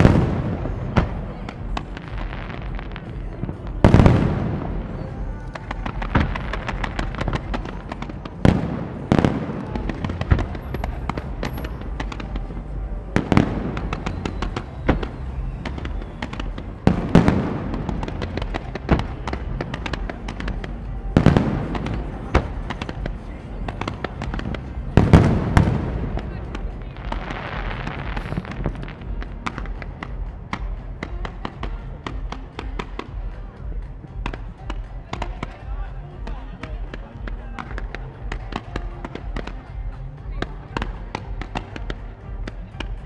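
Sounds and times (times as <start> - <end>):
fireworks crackling and popping: 0.0 - 43.0
fireworks shells booming: 0.0 - 43.0.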